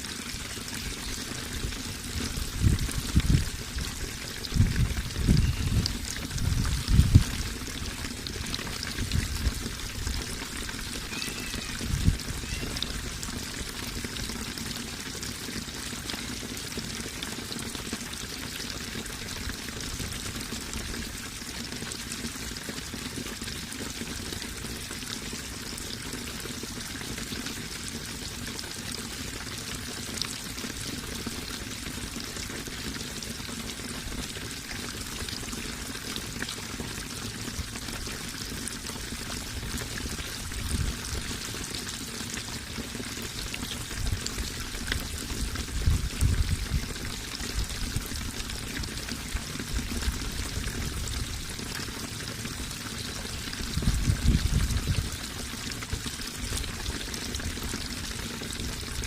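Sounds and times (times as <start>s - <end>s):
water running and trickling: 0.0s - 59.0s.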